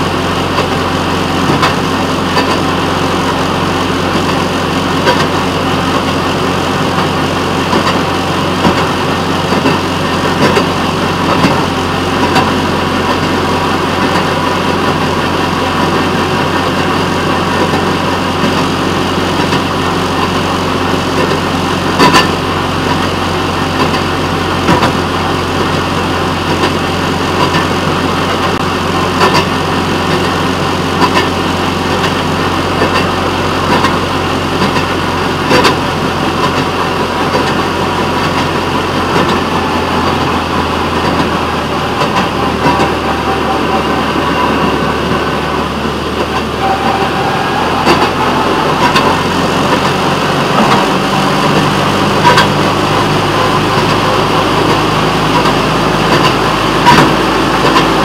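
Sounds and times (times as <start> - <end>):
rail motorcar engine running: 0.0 - 58.0
wheels clicking over rail joints: 0.0 - 58.0.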